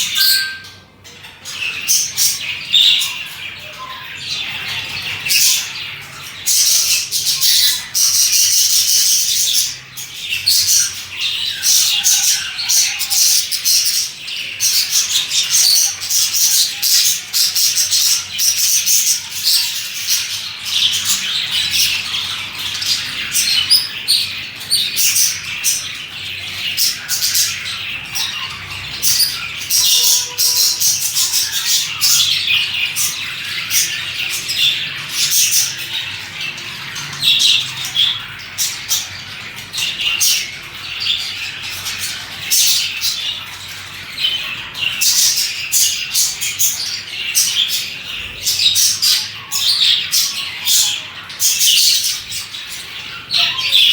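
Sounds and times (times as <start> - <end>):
budgerigars chirping and chattering: 0.0 - 53.9.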